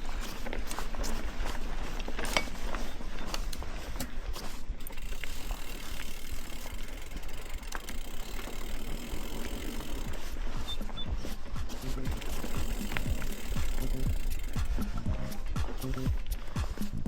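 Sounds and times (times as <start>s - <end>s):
bicycle freehub ratcheting: 0.0s - 16.9s
bike clicks and knocks: 0.0s - 17.0s.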